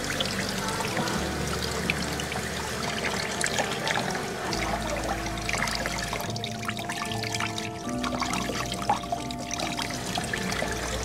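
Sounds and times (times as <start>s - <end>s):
background music: 0.0s - 11.0s
water running and splashing: 0.0s - 11.0s.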